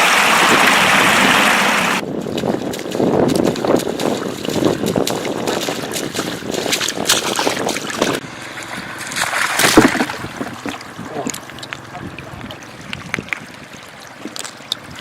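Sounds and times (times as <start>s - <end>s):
floodwater flowing: 0.0s - 15.0s
water splashing and sloshing: 0.0s - 15.0s.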